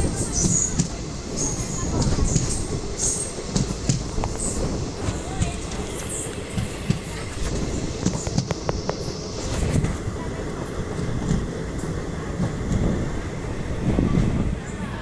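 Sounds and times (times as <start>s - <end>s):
train clicks: 0.0s - 13.3s
train wheels rumbling on rails: 0.0s - 15.0s.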